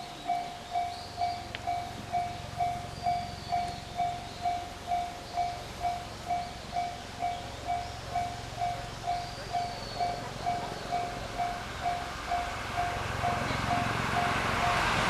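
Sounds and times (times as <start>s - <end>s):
level-crossing warning bell: 0.0s - 15.0s.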